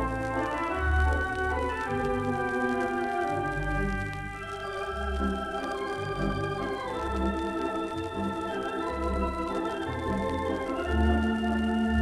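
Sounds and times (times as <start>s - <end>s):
theatre organ playing waltz: 0.0s - 12.0s.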